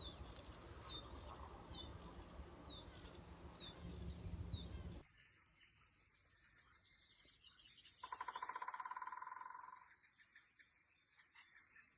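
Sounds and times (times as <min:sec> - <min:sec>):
faint birds chirping: 0:00.0 - 0:11.9.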